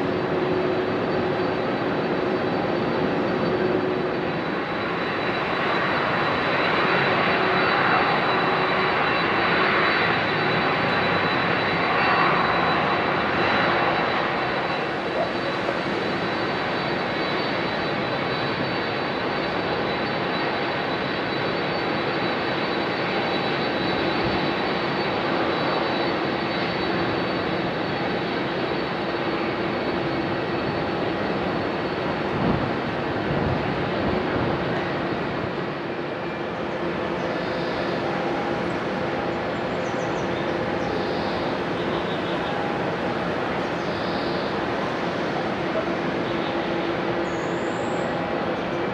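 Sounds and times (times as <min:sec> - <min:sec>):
jet engines hum and whine: 0:00.0 - 0:48.9.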